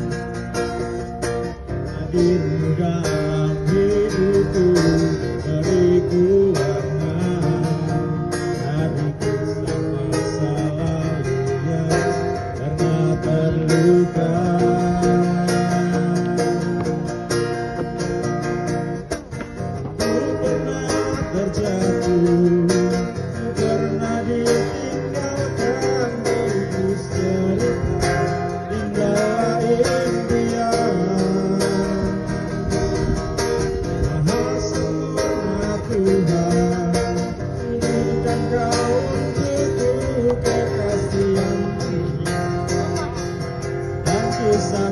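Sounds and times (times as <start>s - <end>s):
acoustic guitar music: 0.0s - 44.9s.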